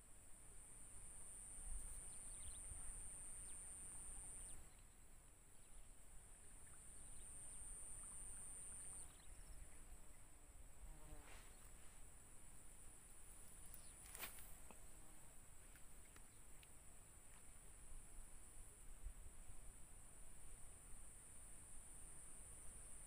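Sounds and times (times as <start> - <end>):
faint high-pitched insect buzz: 0.0 - 23.0.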